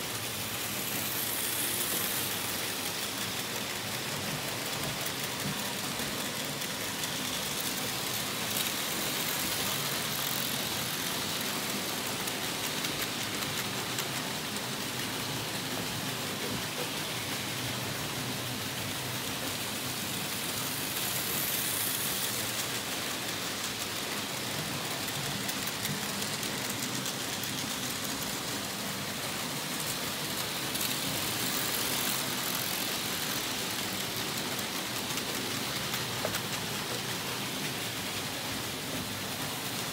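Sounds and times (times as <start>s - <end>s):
model train wheels rattling on rails: 0.0s - 39.9s.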